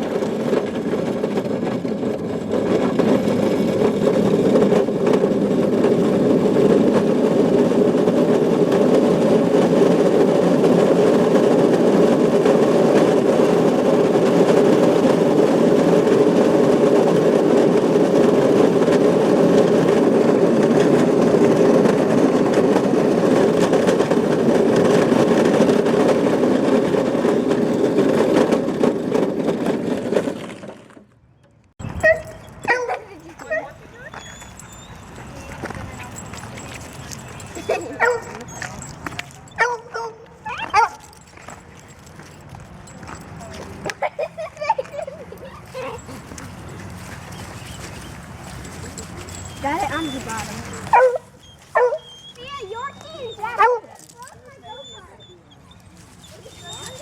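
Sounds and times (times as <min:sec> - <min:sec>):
toy go-kart motor whirring: 0:00.1 - 0:31.0, 0:31.9 - 0:55.2, 0:55.8 - 0:57.0.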